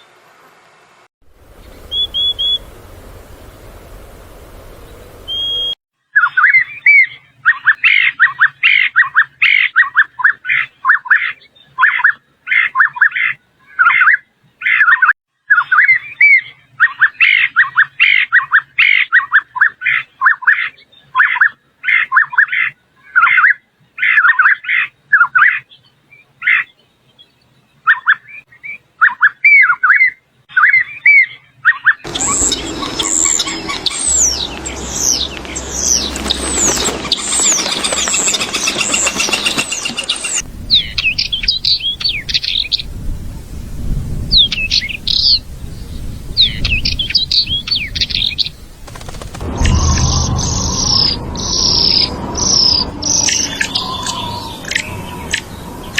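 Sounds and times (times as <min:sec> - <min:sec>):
bird twittering song: 0:01.6 - 0:02.8, 0:04.6 - 0:43.0, 0:44.3 - 0:55.9.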